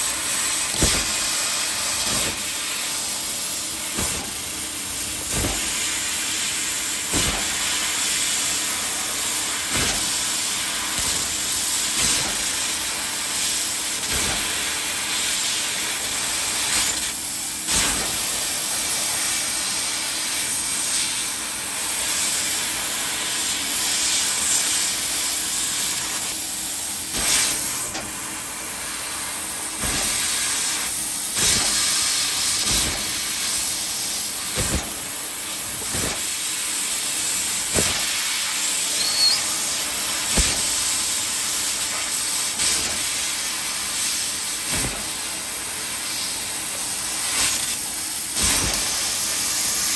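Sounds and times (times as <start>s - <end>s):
hiss of gas jet: 0.0s - 49.9s.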